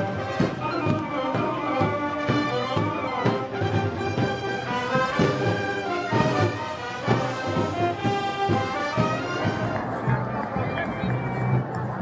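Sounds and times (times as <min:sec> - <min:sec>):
brass band playing: 0:00.0 - 0:10.1
trombones and trumpets: 0:00.0 - 0:10.1
steady drum beat: 0:00.0 - 0:10.2.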